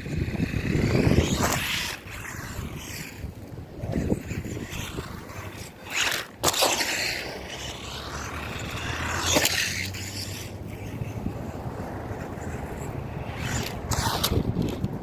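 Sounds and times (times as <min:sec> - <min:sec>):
rc car motor and tyres rushing: 0:00.0 - 0:15.0
wind on microphone: 0:00.0 - 0:15.0.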